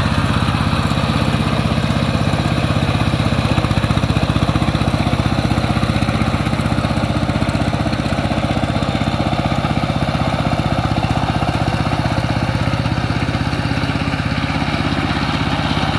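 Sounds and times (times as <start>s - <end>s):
diesel power tiller chugging: 0.0s - 15.9s.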